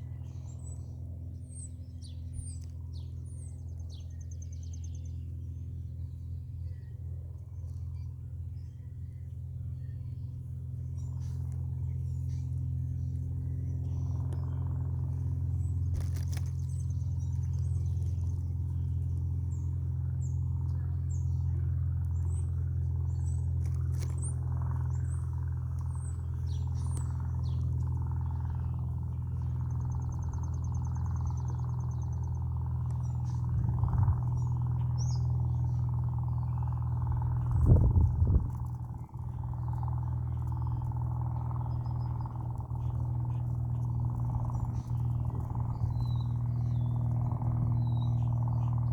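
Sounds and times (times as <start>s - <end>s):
songbirds chirping: 0.0s - 48.9s
steady low hum: 0.0s - 48.9s
bird trill: 7.9s - 48.9s.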